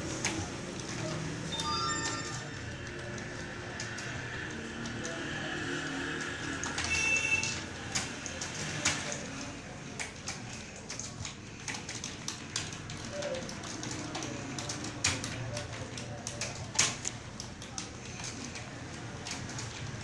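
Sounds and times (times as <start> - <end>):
keyboard keys clicking: 0.0 - 5.2, 6.2 - 20.0.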